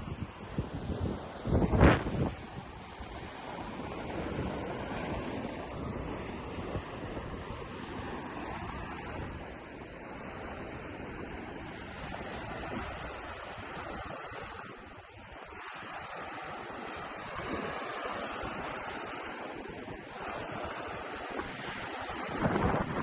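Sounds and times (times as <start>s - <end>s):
ocean surf washing onto beach: 0.0s - 23.0s
wind buffeting microphone: 0.0s - 23.0s.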